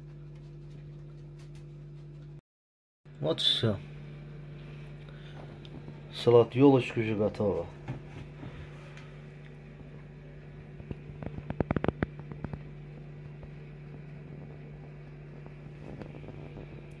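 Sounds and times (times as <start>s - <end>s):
low background hum: 0.0s - 2.4s, 3.1s - 17.0s.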